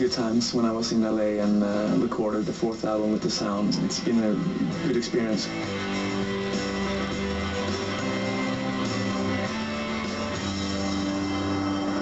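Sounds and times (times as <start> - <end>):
strummed guitar background music: 0.0 - 12.0.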